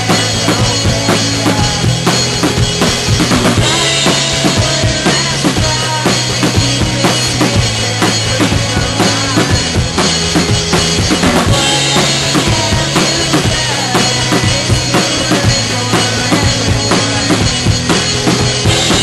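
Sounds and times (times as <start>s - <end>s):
drum kit playing: 0.0s - 19.0s
rock song backing: 0.0s - 19.0s.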